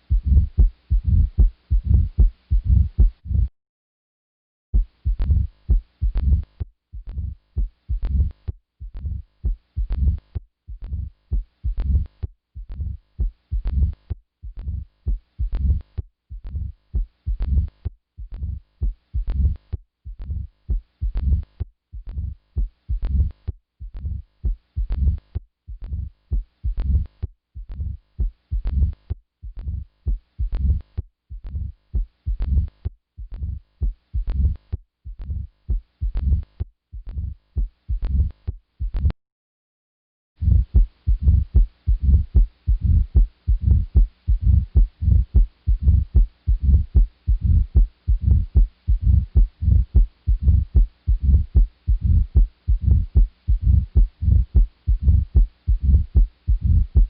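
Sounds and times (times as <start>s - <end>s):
heartbeat through stethoscope: 0.0s - 3.5s, 4.8s - 39.2s, 40.4s - 57.0s.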